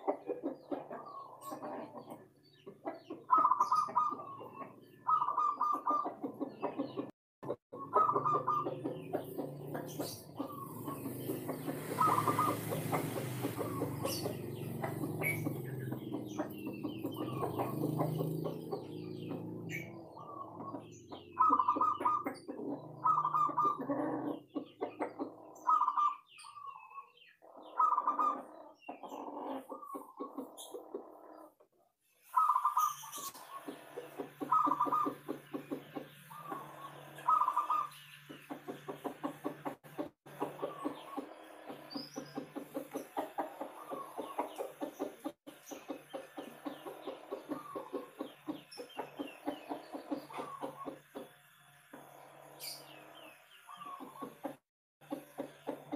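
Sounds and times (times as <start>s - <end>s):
dove cooing in trilled bursts: 3.1s - 6.8s, 7.7s - 31.6s, 32.3s - 45.5s, 46.2s - 51.2s.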